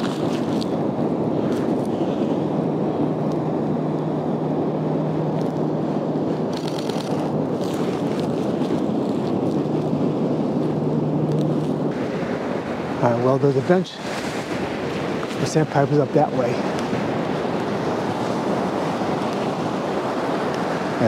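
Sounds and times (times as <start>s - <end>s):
surf washing on beach: 0.0s - 21.0s
wind buffeting microphone: 0.0s - 21.0s.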